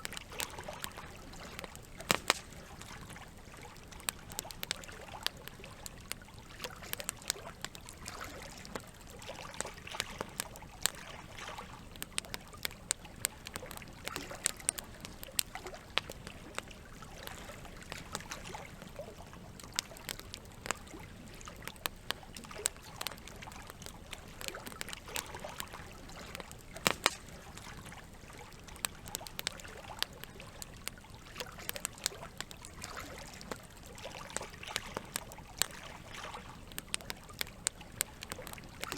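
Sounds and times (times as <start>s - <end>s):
campfire crackling and popping: 0.0s - 38.9s
trickle of flowing water: 0.0s - 38.9s.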